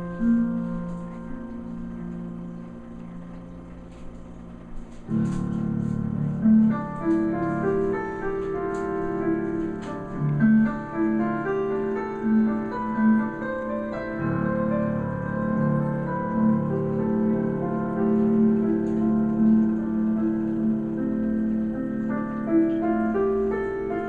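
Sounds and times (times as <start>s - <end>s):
slow instrumental keyboard music: 0.0s - 24.0s.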